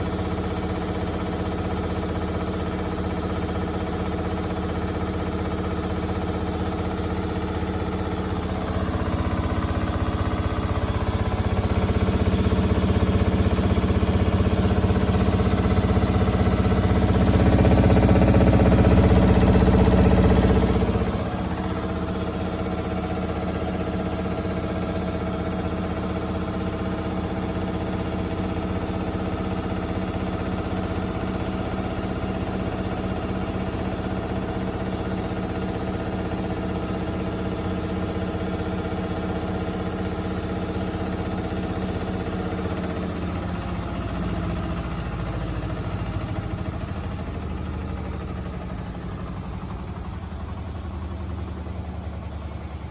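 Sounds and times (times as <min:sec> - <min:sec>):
washing machine spinning: 0:00.0 - 0:52.9.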